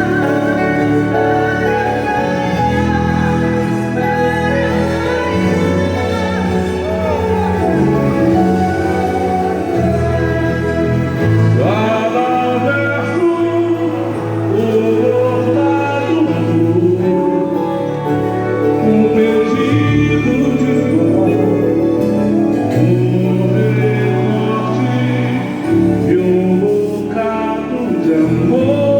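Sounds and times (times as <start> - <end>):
singers with live band: 0.0 - 28.9.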